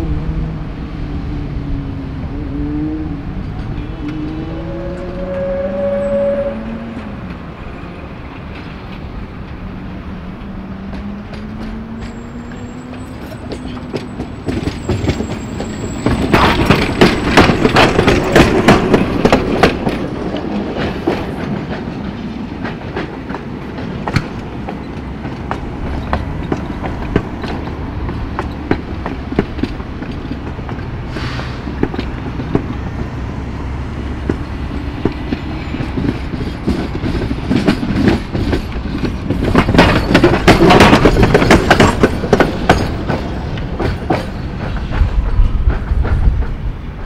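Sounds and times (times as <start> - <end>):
tram wheels clacking over rail joints: 0.0 - 47.0.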